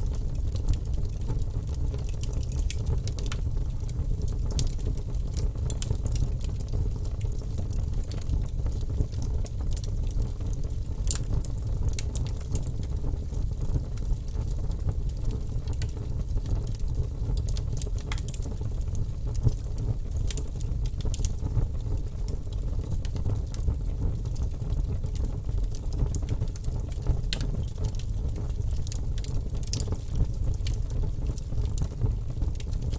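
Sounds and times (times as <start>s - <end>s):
fire crackling in fireplace: 0.0s - 32.9s.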